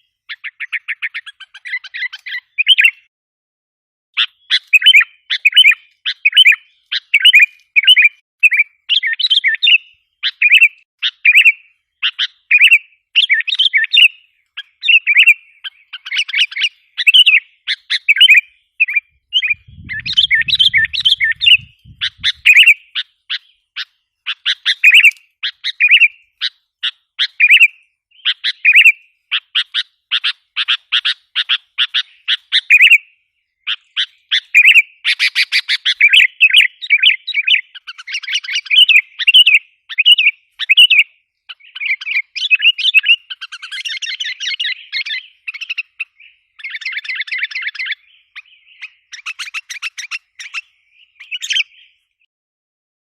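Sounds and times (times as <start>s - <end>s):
birds chirping and chattering: 0.0s - 3.1s, 4.2s - 52.3s.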